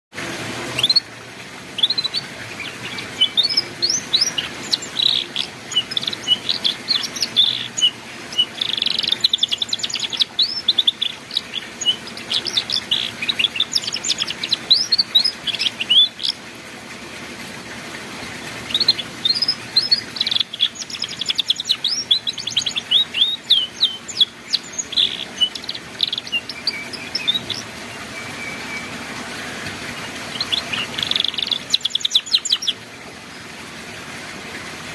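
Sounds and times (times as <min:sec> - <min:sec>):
canary singing: 0:00.7 - 0:01.1, 0:01.7 - 0:16.4, 0:18.7 - 0:32.8.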